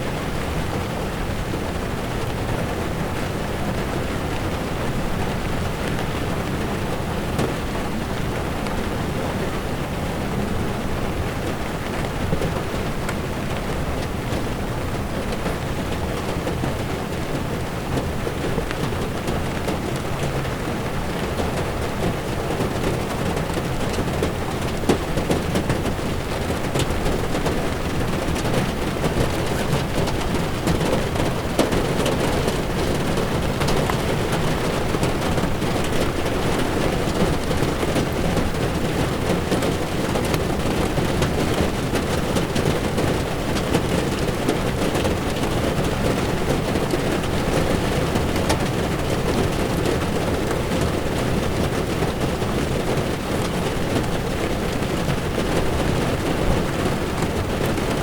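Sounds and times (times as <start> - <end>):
heavy rain drumming on car: 0.0 - 58.0
low rumble of car: 0.0 - 58.0.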